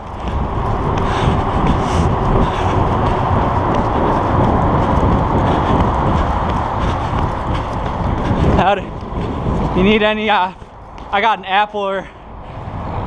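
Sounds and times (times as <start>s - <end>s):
highway traffic roar: 0.0s - 13.0s.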